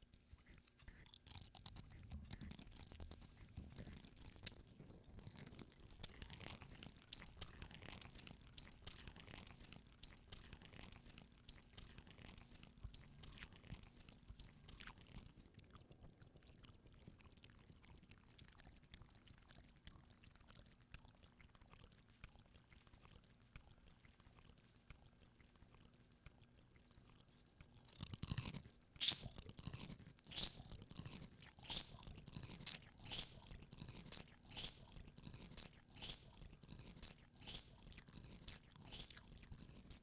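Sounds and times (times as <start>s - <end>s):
person chewing crunchy chips: 0.0s - 20.2s, 21.1s - 40.0s.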